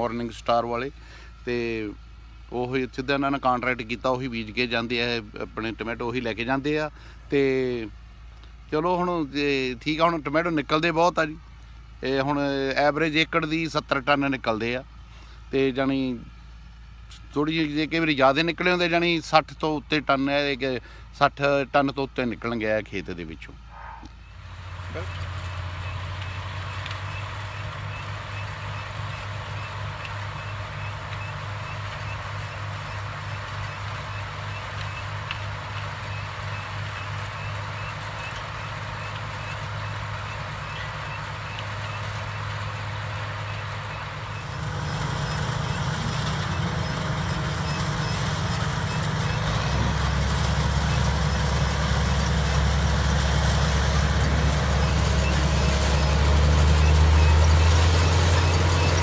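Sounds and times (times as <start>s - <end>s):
diesel harvesting machinery droning: 0.0s - 59.0s.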